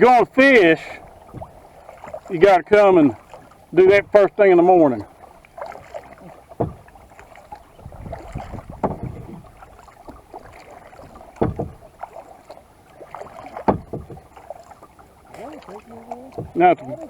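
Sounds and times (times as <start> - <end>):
paddle strokes in water: 0.0 - 17.0
water washing along hull: 0.0 - 17.0.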